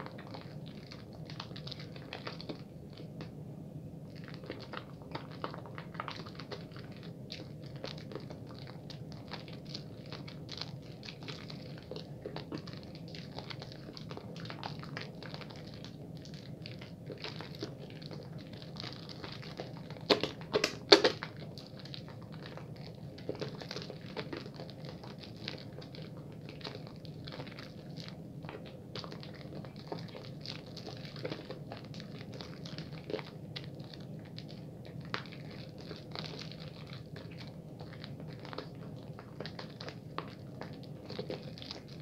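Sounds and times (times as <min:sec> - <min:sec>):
soap lathering crackle: 0:00.0 - 0:03.4, 0:04.1 - 0:42.0.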